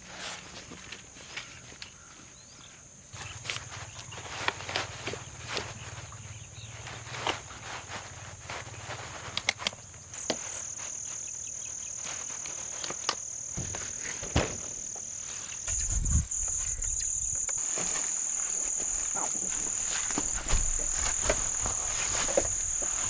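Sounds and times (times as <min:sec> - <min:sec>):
insects trilling: 0:00.8 - 0:23.0.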